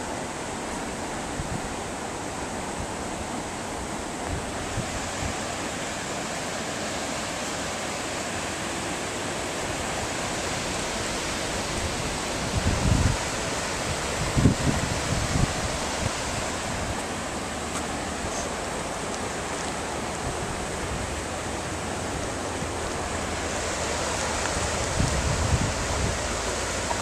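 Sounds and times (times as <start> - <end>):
river rushing through rapids: 0.0 - 27.0.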